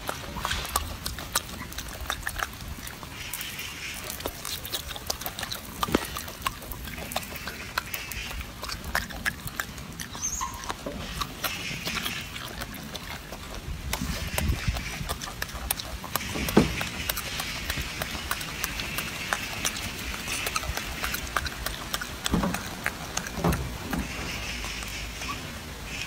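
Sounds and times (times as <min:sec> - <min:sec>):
monkey chewing fruit: 0:00.0 - 0:26.0.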